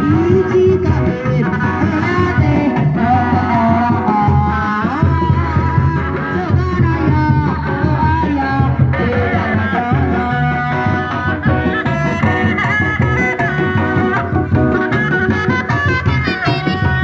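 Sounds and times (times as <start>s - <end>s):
repeating drum pattern: 0.0s - 17.0s.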